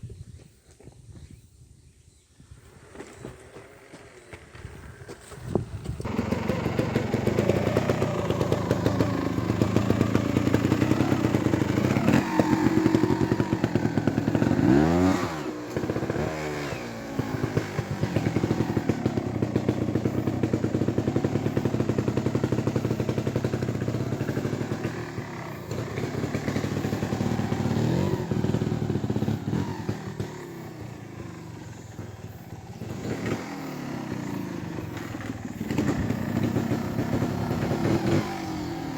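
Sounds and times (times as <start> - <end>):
motorcycle engine running: 2.8 - 38.9.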